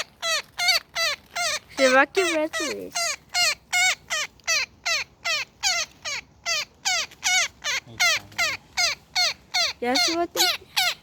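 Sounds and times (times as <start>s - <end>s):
woodpecker distress calls: 0.0s - 11.0s.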